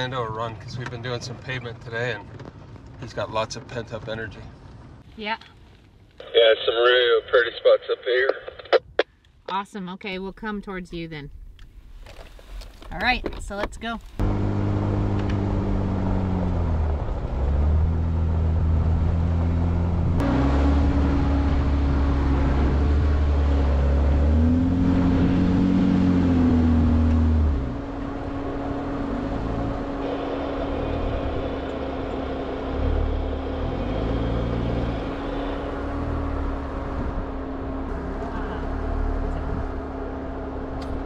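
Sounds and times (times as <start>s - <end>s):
car engine driving uphill: 0.0s - 6.9s, 11.3s - 41.0s.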